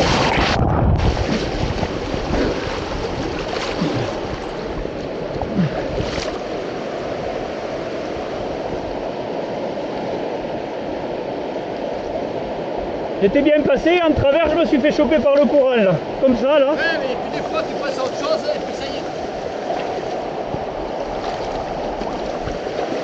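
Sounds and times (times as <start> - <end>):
river rapid rushing: 0.0 - 23.0.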